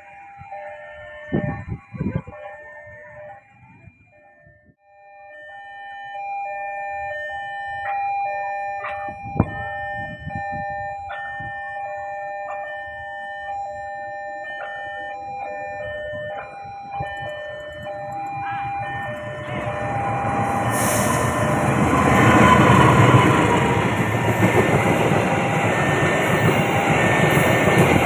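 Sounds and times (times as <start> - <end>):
level crossing two-tone alarm: 0.0 - 28.0.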